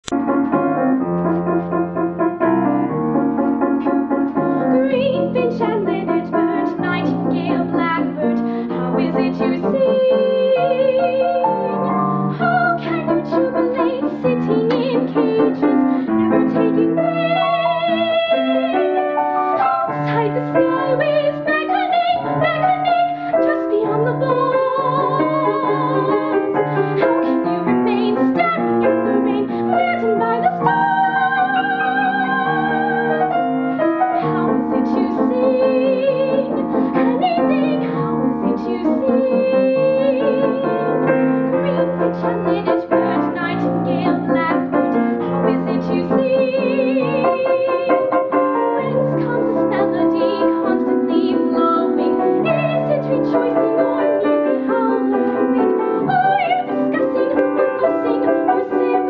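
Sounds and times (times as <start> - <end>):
piano accompaniment: 0.0 - 59.0
woman singing with vibrato: 4.6 - 59.0.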